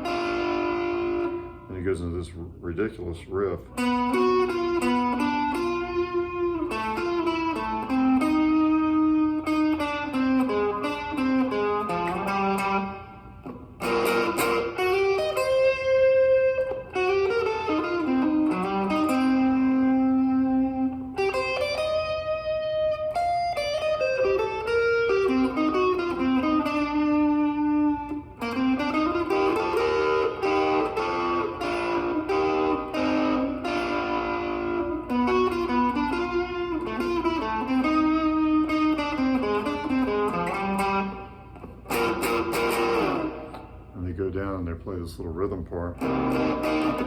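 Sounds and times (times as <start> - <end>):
jazz guitar riff: 0.0 - 47.0.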